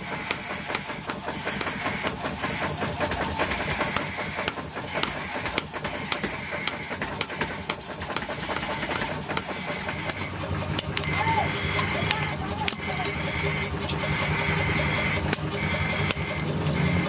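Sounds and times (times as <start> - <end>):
rhythmic mechanical clatter: 0.0 - 17.0.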